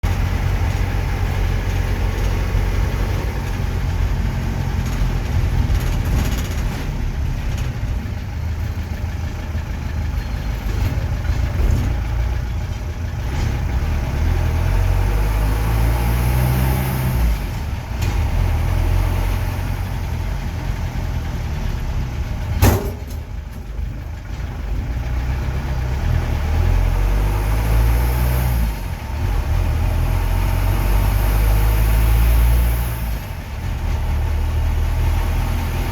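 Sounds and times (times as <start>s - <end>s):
bus engine rumbling: 0.0s - 35.9s.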